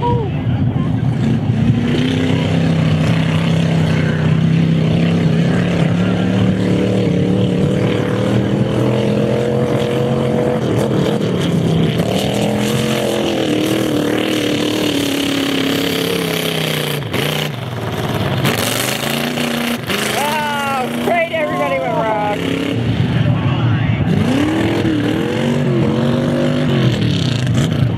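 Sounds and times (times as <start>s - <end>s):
race vehicle engine revving: 0.0s - 27.9s.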